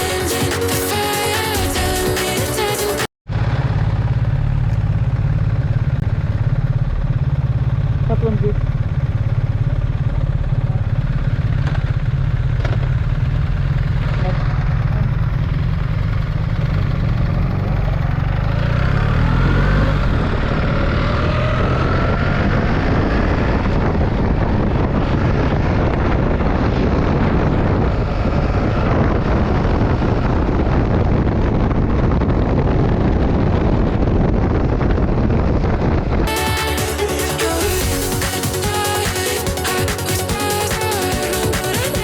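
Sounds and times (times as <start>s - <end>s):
motorcycle engine accelerating: 0.0s - 42.0s
wind and road noise: 0.0s - 42.0s.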